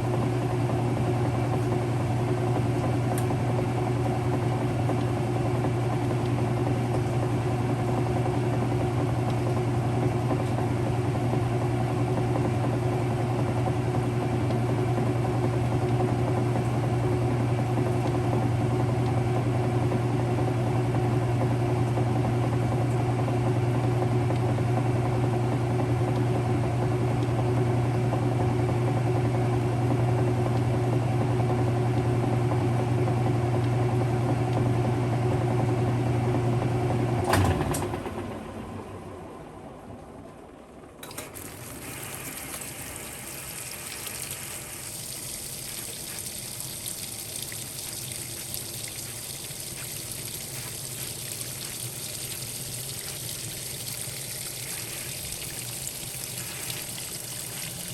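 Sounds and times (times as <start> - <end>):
washing machine motor hum: 0.0 - 57.9.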